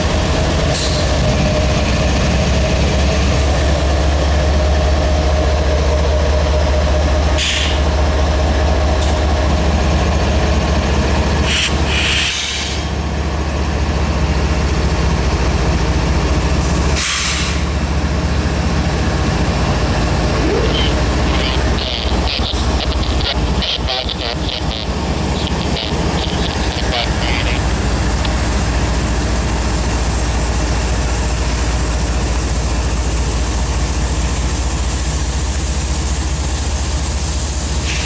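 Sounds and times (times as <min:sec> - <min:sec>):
locomotive engine drone: 0:00.0 - 0:38.0.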